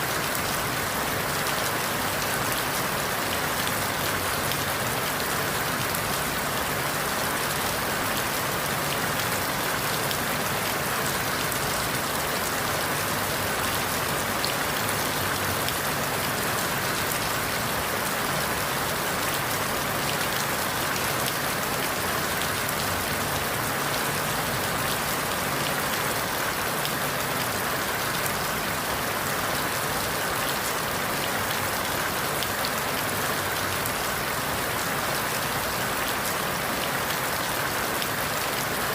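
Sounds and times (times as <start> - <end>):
rain falling through leaves: 0.0 - 38.9.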